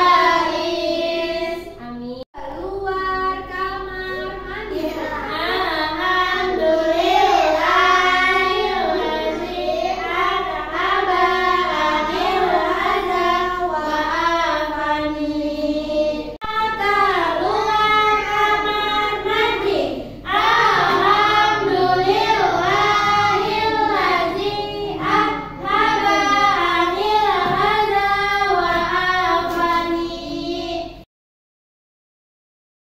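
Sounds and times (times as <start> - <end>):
young children singing: 0.0 - 31.0.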